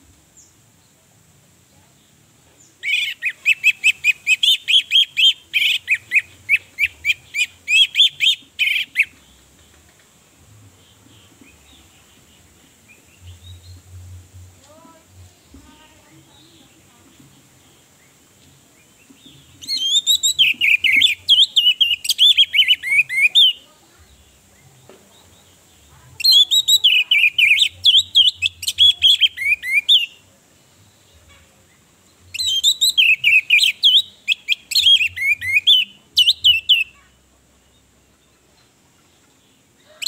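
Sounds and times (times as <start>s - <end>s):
bird warbling song: 2.6s - 14.0s, 14.7s - 40.0s.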